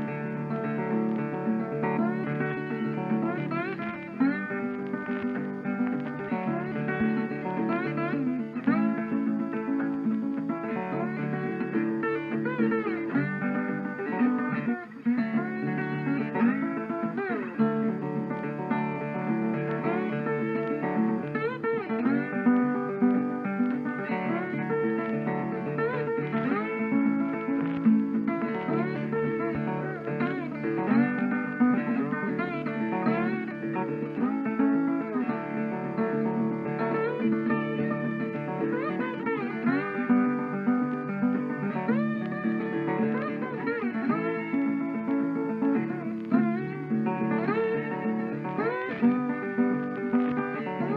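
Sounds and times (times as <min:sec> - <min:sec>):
acoustic guitar instrumental: 0:00.0 - 0:50.9.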